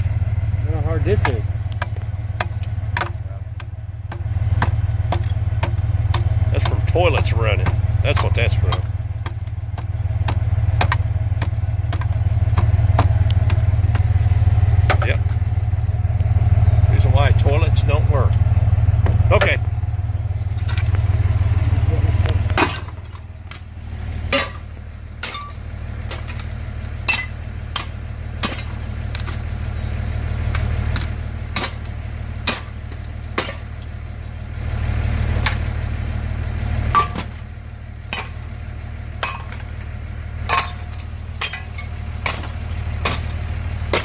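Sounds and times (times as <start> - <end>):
low engine hum: 0.0 - 44.0.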